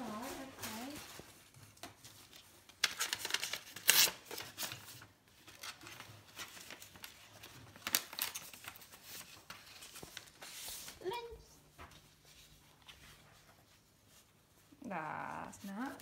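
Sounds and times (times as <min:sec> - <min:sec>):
wrapping paper rustling: 0:00.0 - 0:16.0.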